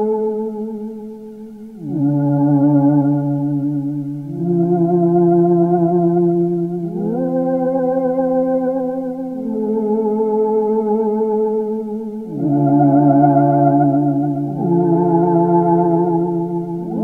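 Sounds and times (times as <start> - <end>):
synthesizer sustained chords: 1.8 - 17.0.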